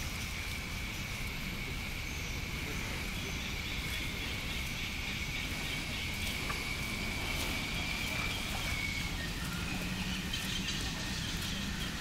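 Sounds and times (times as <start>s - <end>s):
high-pitched insect drone: 0.0s - 12.0s
low rumbling noise: 0.0s - 12.0s.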